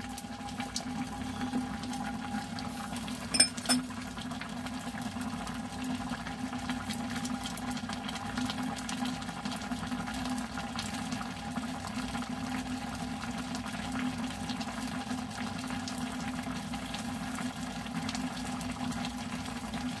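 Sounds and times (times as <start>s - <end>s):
broth boiling with bubbling pops: 0.0s - 20.0s.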